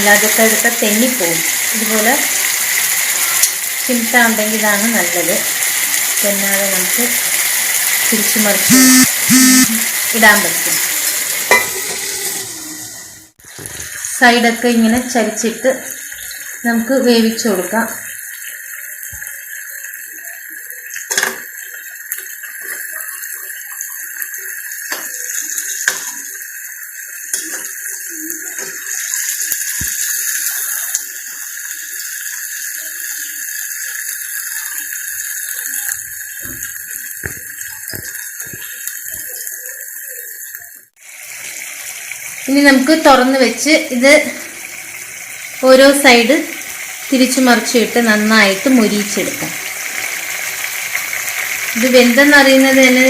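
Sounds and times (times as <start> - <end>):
sharp pops and clicks of frying: 0.0 - 12.3, 13.3 - 53.0
chicken sizzling in a pan: 0.0 - 53.0.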